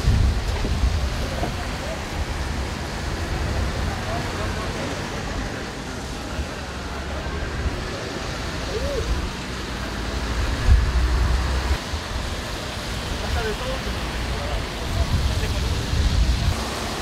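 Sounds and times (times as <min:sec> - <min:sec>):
motorway traffic on wet road: 0:00.0 - 0:17.0.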